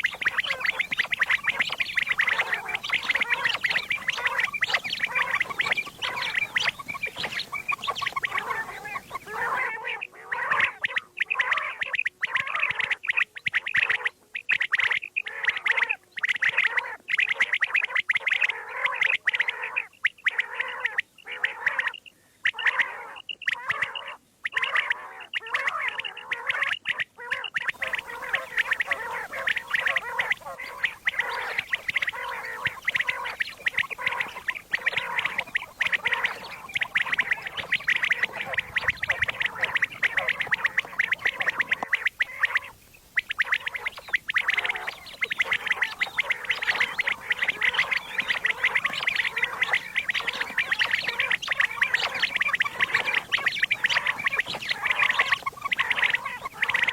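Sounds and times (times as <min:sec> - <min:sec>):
faint background hiss: 0:00.0 - 0:56.9
quail calling: 0:00.0 - 0:56.9.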